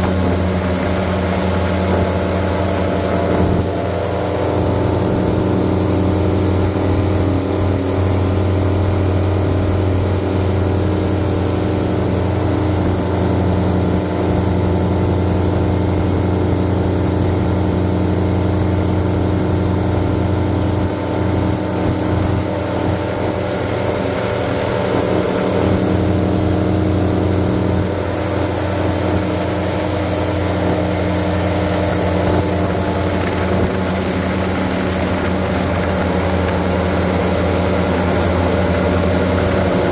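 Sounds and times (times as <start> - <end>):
airboat engine droning: 0.0 - 39.9.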